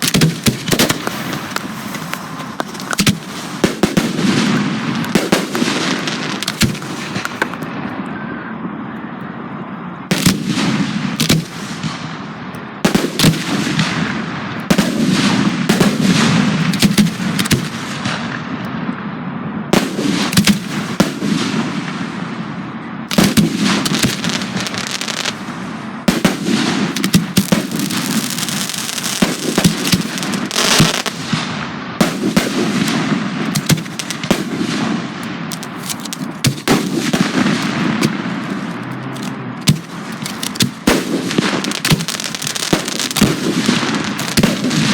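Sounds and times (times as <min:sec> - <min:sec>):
fireworks crackle: 0:00.0 - 0:08.0, 0:10.1 - 0:18.5, 0:19.7 - 0:22.3, 0:23.0 - 0:44.9
fireworks bangs: 0:00.0 - 0:08.8, 0:09.5 - 0:44.9.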